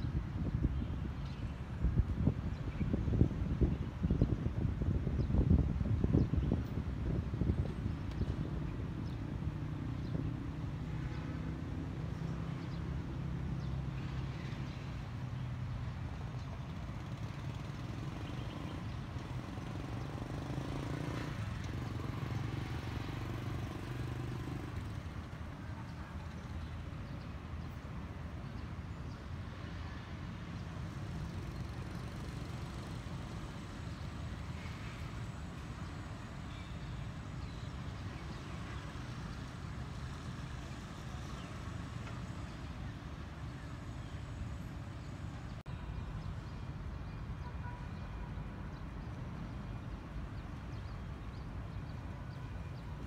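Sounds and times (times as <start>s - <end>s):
city street traffic rumble: 0.0s - 53.0s.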